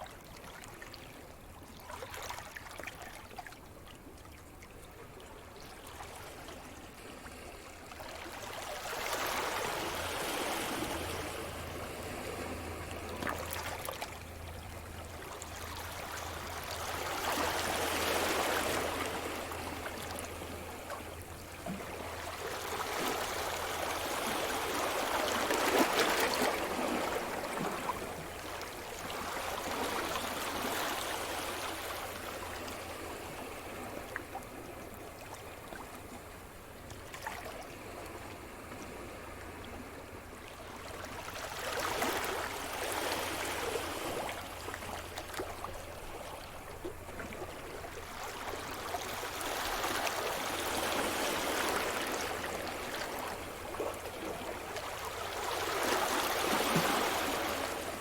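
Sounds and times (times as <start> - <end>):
waves breaking on shore: 8.2 - 36.4, 37.0 - 58.0.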